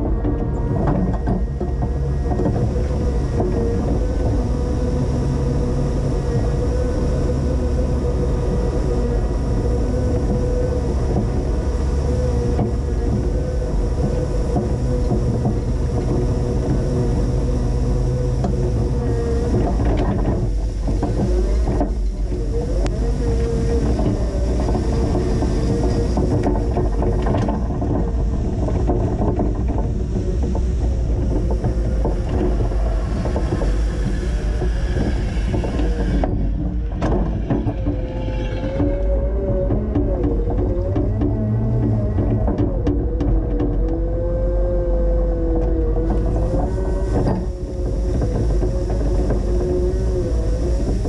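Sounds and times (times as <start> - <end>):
forklift engine drone: 0.0 - 51.0
steady whining tone: 0.0 - 51.0.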